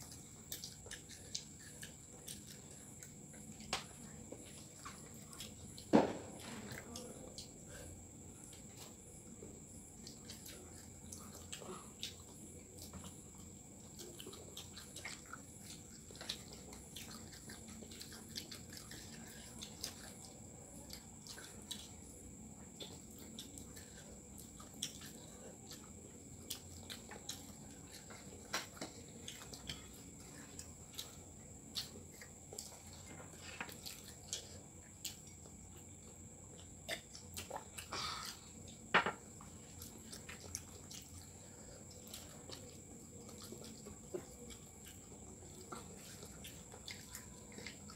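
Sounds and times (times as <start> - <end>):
children chewing and lip smacking: 0.0 - 47.9.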